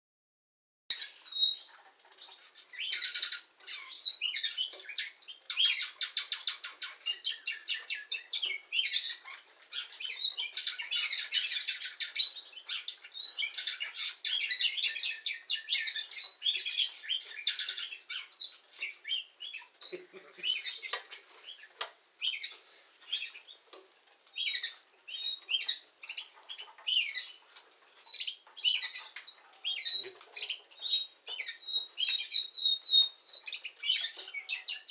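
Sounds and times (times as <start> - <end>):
canary singing trills: 0.9 - 34.9.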